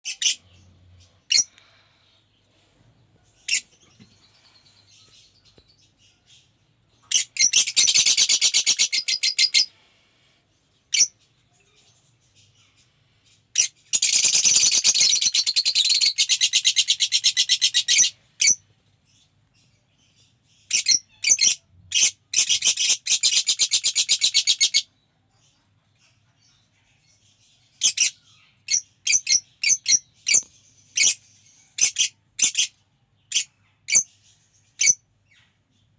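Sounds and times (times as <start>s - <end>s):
bird chicks chirping: 0.0s - 35.9s.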